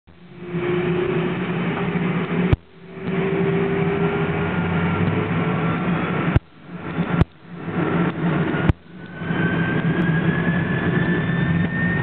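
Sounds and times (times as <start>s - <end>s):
faint hum: 0.1s - 12.0s
jet engines roaring: 0.1s - 12.0s.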